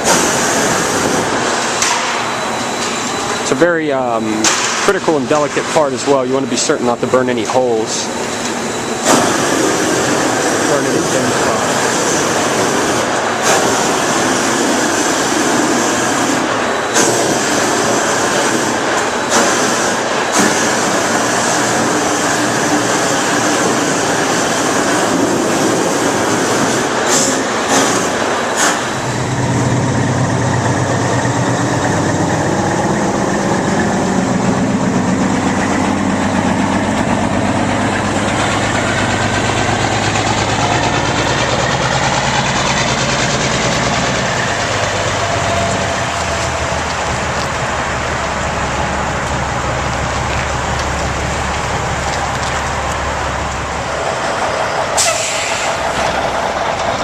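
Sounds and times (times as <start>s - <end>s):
heat gun blasting: 0.0s - 5.9s, 6.6s - 50.7s, 54.9s - 56.7s
engine idling: 7.0s - 57.0s.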